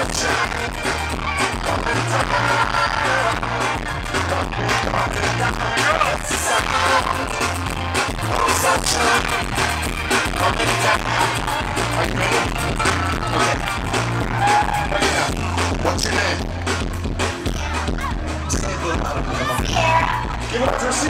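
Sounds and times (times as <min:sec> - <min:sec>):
amplified live band playing: 0:00.0 - 0:21.0.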